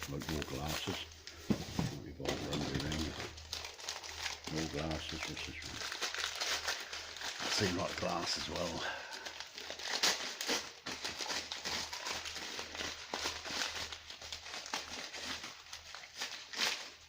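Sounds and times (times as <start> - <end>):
paper crinkling and rustling: 0.0 - 17.0.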